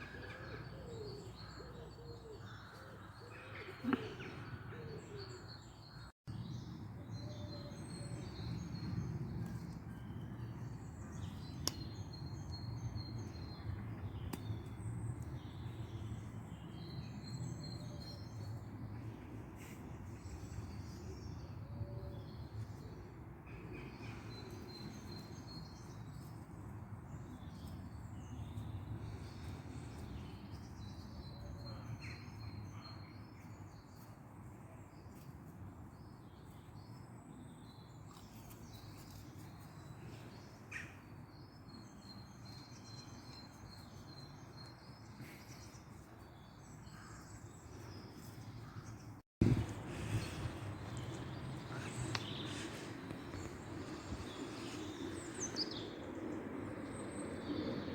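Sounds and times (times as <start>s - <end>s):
small birds chirping: 7.2s - 57.9s.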